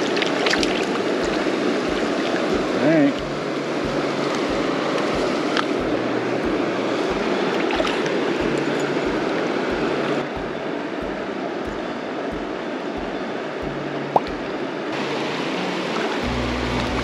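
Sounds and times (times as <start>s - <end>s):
river current rushing and splashing: 0.0s - 17.0s.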